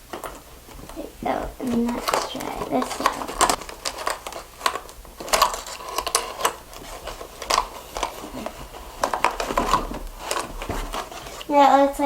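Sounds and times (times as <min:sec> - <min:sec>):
cardboard and plastic clicking: 0:00.0 - 0:11.5.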